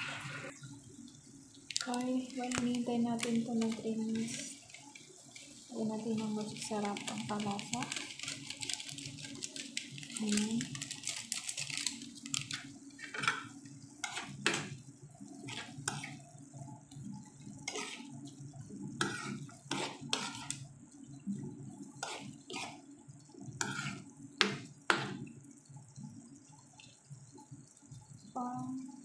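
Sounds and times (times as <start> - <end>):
food simmering and sloshing: 0.0 - 29.0.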